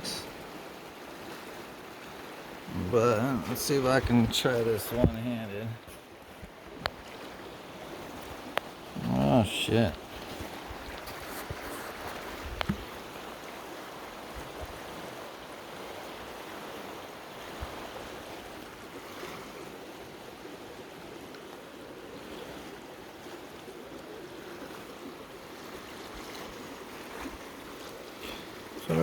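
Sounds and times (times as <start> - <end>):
creek water over rocks: 0.0 - 29.0.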